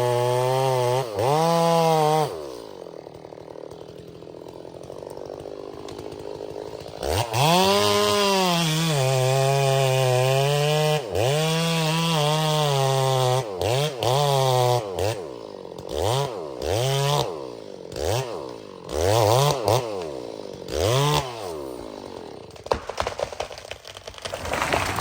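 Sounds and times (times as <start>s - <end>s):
chainsaw cutting into tree: 0.0s - 25.0s.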